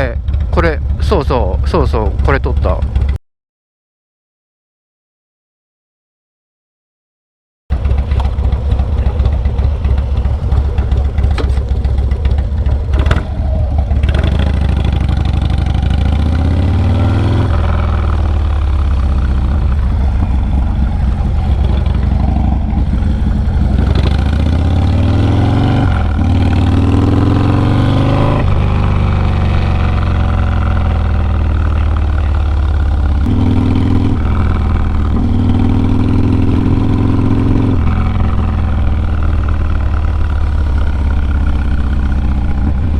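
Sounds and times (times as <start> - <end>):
motorcycle engine revving: 0.0 - 3.2, 7.7 - 42.9.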